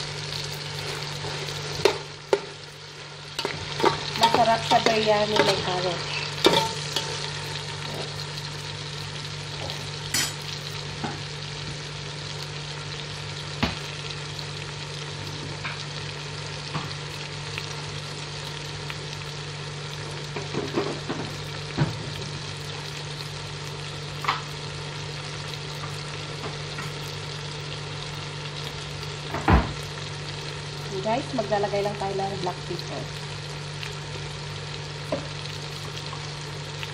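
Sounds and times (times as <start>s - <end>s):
food sizzling in oil: 0.0s - 36.9s.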